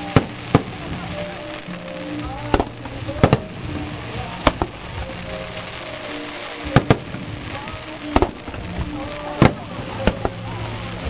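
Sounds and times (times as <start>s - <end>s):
crowd voices: 0.0s - 11.0s
fireworks bursting with bangs: 0.0s - 11.0s
music: 0.0s - 11.0s.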